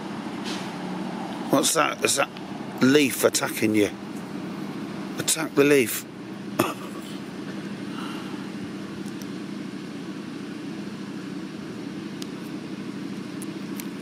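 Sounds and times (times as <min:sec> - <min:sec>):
low hum of road traffic: 0:00.0 - 0:14.0.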